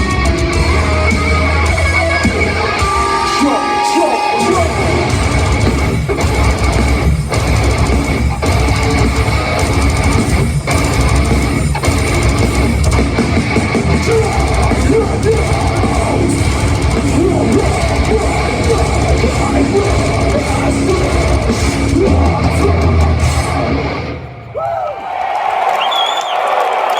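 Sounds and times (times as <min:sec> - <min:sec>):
distorted electric guitars: 0:00.0 - 0:24.6
pounding drum kit: 0:00.0 - 0:25.7.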